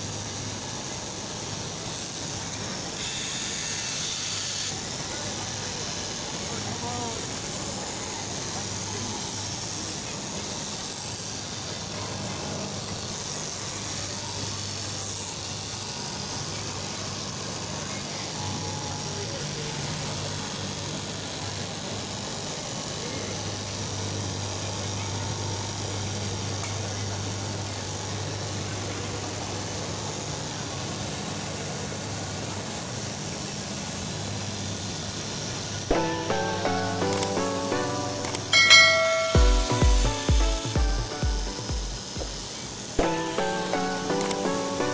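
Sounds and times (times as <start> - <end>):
cloth cutting machine humming: 0.0 - 44.9
machine noise of cutting room: 0.0 - 44.9.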